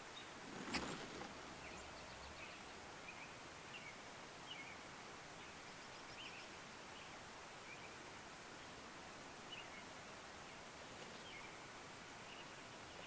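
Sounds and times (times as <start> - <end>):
faint songbird chirps: 0.0 - 8.8, 9.4 - 13.0
steady background hiss: 0.0 - 13.0.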